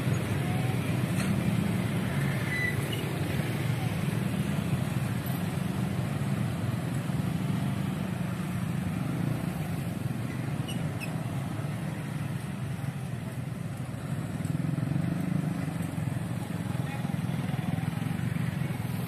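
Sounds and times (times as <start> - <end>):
low traffic drone: 0.0 - 19.0
motorcycle engines running: 0.0 - 19.0.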